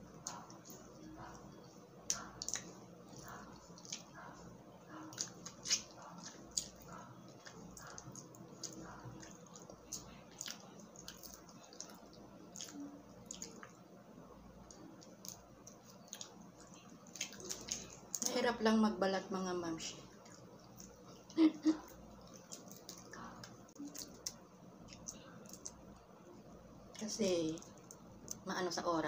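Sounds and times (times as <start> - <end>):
wet chewing and smacking: 0.0 - 18.6, 19.8 - 28.5.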